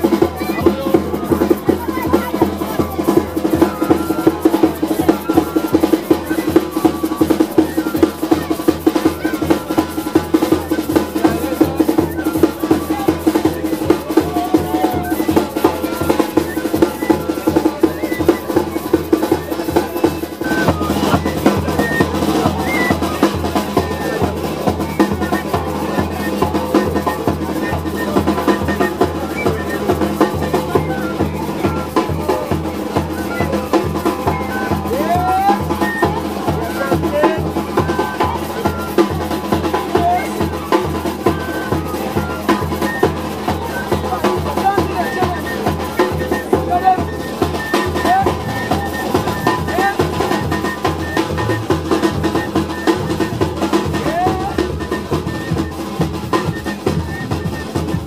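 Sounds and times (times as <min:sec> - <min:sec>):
drum band playing fast beat: 0:00.0 - 0:58.0
snare drum rolls: 0:00.0 - 0:58.0.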